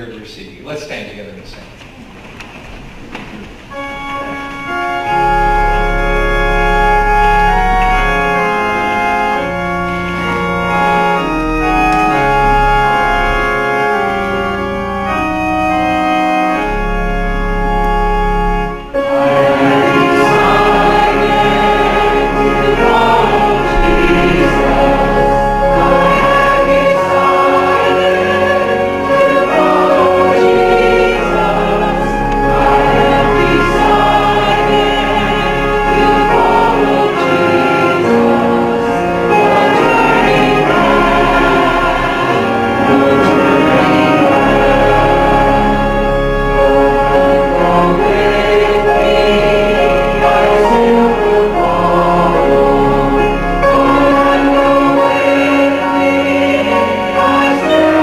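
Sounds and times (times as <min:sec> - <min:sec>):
church organ playing: 0:02.5 - 0:58.0
congregation singing a hymn: 0:03.7 - 0:58.0.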